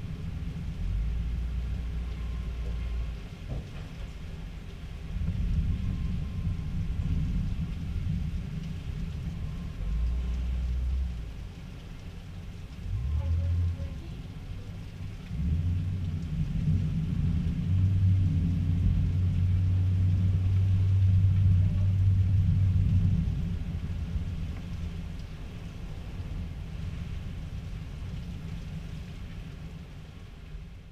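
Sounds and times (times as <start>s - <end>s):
thunder rumbling: 0.0s - 30.9s.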